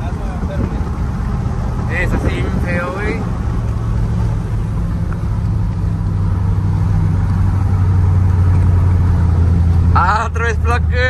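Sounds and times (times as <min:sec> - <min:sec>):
truck exhaust drone from inside cab: 0:00.0 - 0:11.0.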